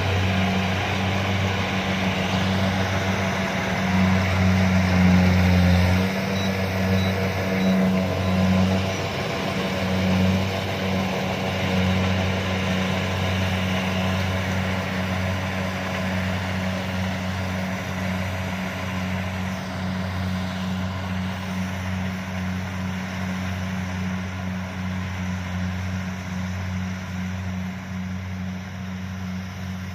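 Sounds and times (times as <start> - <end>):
diesel engine droning: 0.0 - 29.9
machinery noise: 0.0 - 29.9.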